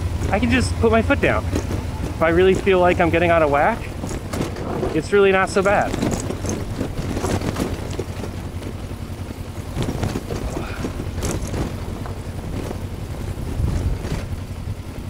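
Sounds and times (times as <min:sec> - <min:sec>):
wind on microphone: 0:00.0 - 0:14.8
knocks and clatter: 0:00.0 - 0:15.0
motorcycle engine running: 0:00.0 - 0:15.0.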